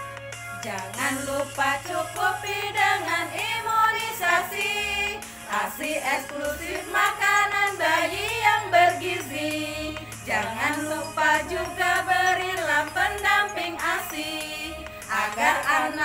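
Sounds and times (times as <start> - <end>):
backing track with steady beat: 0.0 - 16.0
women singing together: 0.6 - 16.0.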